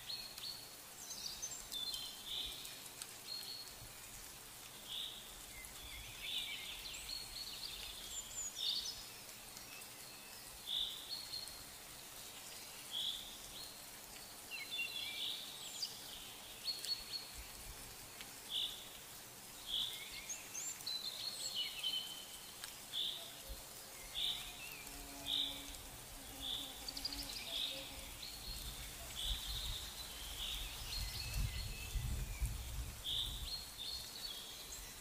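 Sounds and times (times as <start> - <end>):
birds chirping and twittering: 0.0 - 35.0
faint steady hiss: 0.0 - 35.0.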